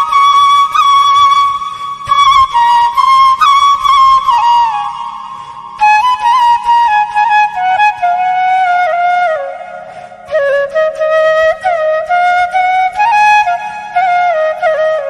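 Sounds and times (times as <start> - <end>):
flute playing slow melody: 0.0 - 15.0.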